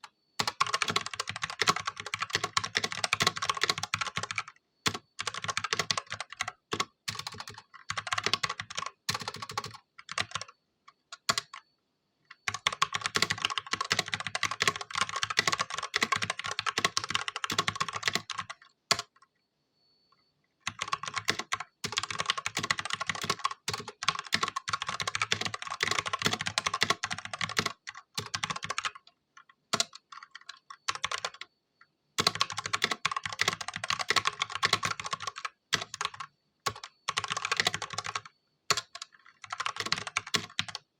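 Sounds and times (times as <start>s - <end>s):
mechanical keyboard typing: 0.4s - 11.6s, 12.3s - 19.2s, 20.6s - 31.5s, 32.2s - 40.9s.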